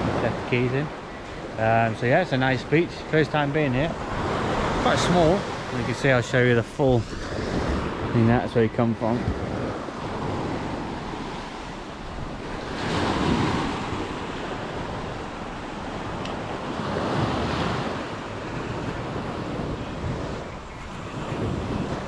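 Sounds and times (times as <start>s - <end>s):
sea waves breaking on a beach: 0.0s - 22.0s
wind on microphone: 3.9s - 22.0s.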